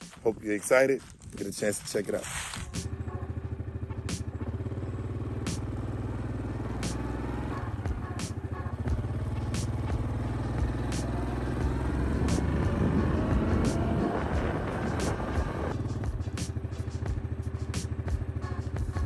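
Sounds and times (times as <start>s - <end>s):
vehicle engine running: 2.6s - 19.0s.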